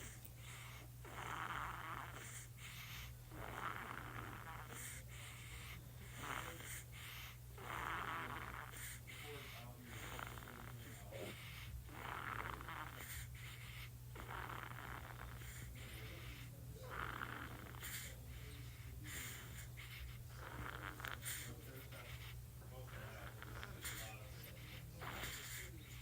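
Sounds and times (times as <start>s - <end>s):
baby snoring: 0.0s - 26.0s.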